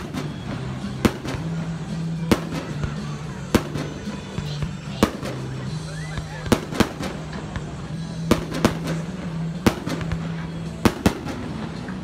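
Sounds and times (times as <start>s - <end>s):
sharp bangs: 0.0s - 12.0s.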